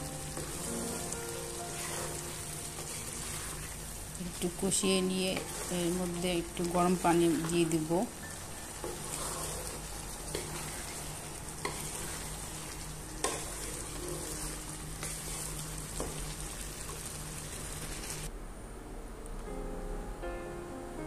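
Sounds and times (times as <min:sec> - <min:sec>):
food sizzling in a wok: 0:00.0 - 0:18.3.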